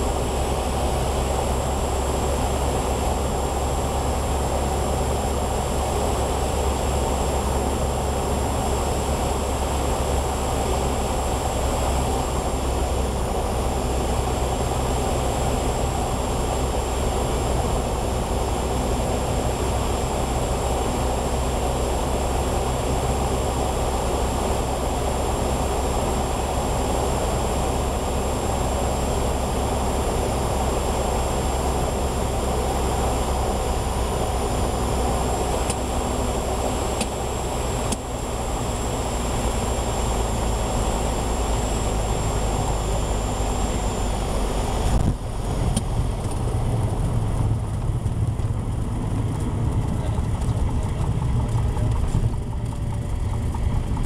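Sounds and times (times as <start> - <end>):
aircraft engine hum: 0.0 - 54.0.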